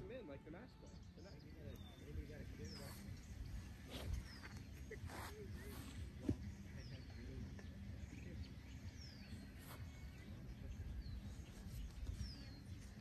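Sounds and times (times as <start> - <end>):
low outdoor background noise: 0.0 - 13.0
birds whistling: 0.8 - 13.0.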